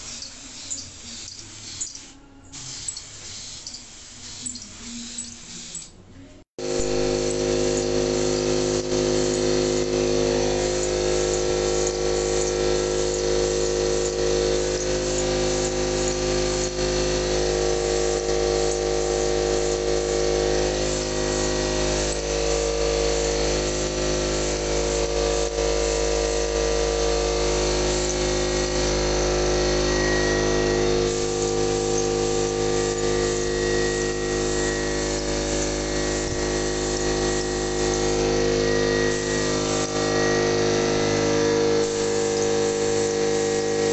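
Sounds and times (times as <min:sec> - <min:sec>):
air compressor humming: 0:06.6 - 0:43.9
spray gun hissing: 0:06.6 - 0:43.9.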